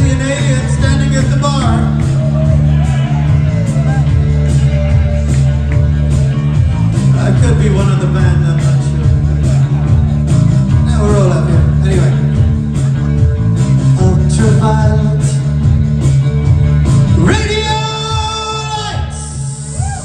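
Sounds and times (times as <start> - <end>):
new wave band playing: 0.0 - 20.0.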